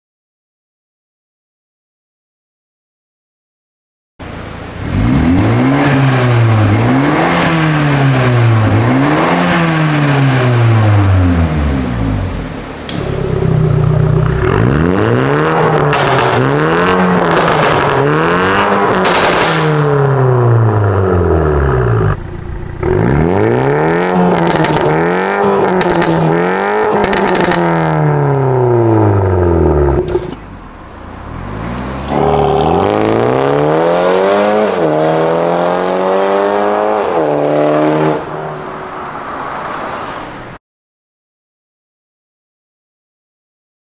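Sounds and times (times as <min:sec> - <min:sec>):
car engine revving: 0:04.3 - 0:40.3.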